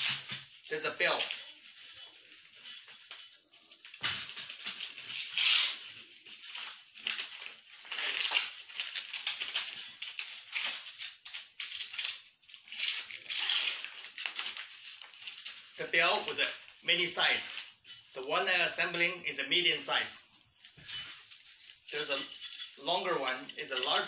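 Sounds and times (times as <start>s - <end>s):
metal fittings clinking: 0.0s - 18.2s, 20.7s - 24.0s
straps rustling: 0.0s - 18.2s, 20.0s - 24.0s.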